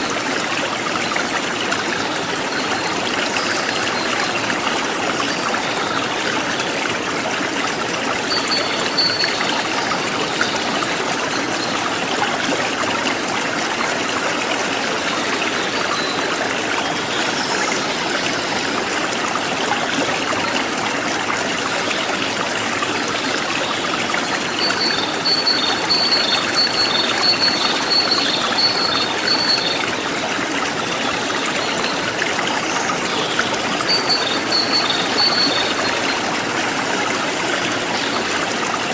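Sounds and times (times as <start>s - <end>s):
forest stream flowing: 0.0s - 38.9s.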